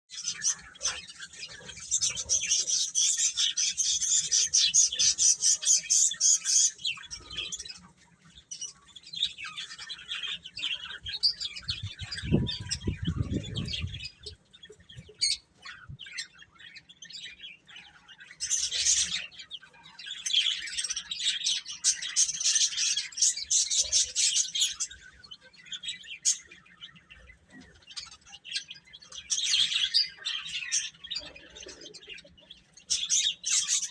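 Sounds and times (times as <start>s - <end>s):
baby chicks peeping: 0.1s - 33.9s.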